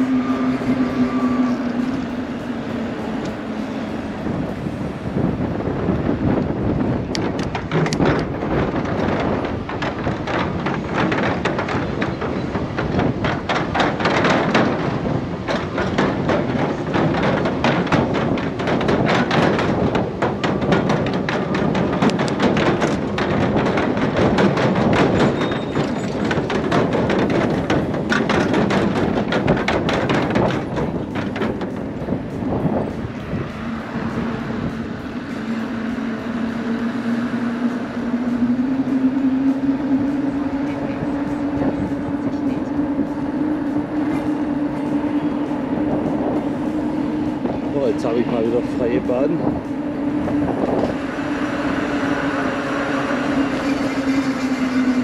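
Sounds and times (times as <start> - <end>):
trailer knocks and rattles: 0.0 - 55.0
wind and rolling noise: 0.0 - 55.0.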